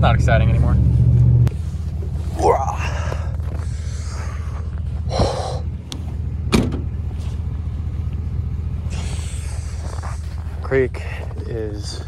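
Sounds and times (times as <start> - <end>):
pickup truck engine and road noise: 0.0 - 12.0.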